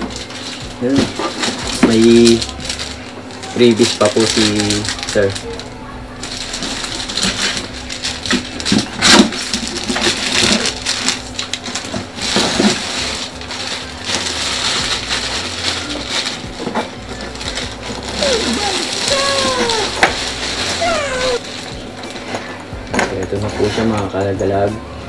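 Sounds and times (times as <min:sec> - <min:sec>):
plastic bag crinkling: 0:00.0 - 0:22.3.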